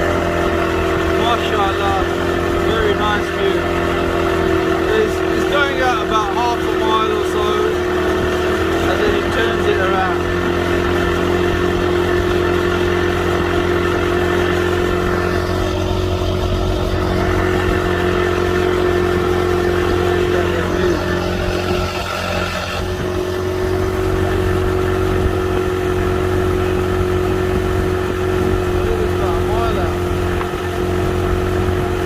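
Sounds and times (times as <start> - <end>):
speedboat engine running: 0.0 - 32.0
wind and water rushing: 0.0 - 32.0.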